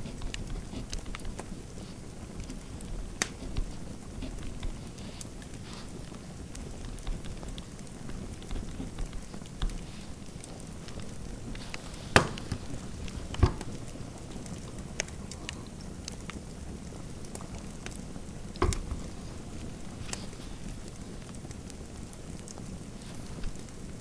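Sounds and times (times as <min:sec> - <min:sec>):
fireplace crackling: 0:00.0 - 0:24.0.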